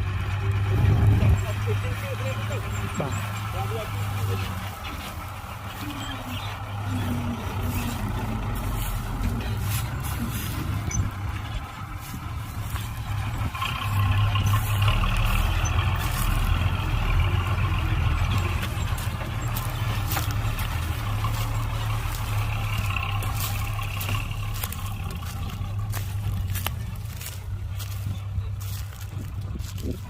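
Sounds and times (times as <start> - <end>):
diesel engine rumble: 0.0 - 30.0.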